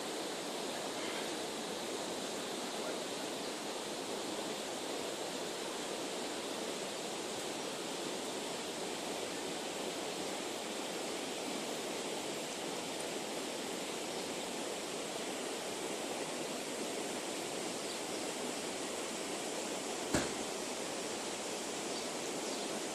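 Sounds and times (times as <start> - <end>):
outdoor ambience rushing noise: 0.0 - 22.9.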